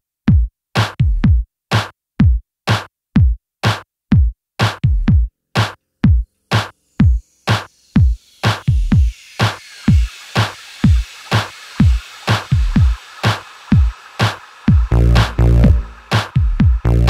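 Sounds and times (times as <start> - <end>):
electronic drum machine beat: 0.3 - 17.0.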